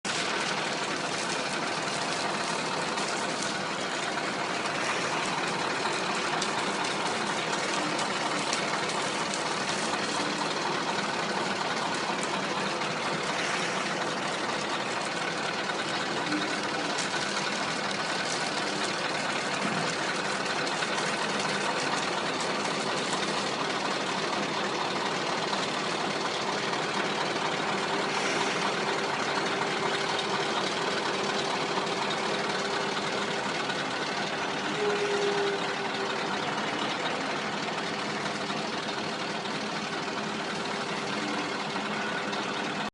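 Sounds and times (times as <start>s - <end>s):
truck diesel engine idling: 0.0s - 42.9s.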